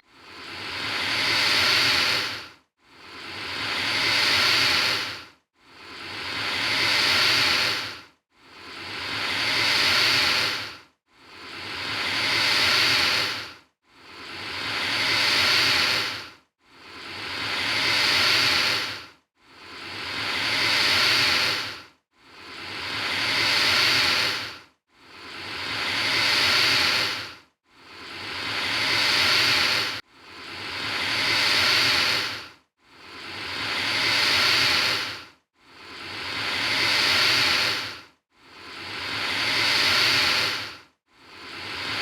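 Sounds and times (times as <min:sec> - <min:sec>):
alligator hissing: 0:00.4 - 0:02.4, 0:03.1 - 0:05.2, 0:05.8 - 0:08.0, 0:08.6 - 0:16.2, 0:16.9 - 0:21.8, 0:22.4 - 0:24.6, 0:25.2 - 0:27.3, 0:27.9 - 0:32.4, 0:33.1 - 0:38.0, 0:38.6 - 0:42.0.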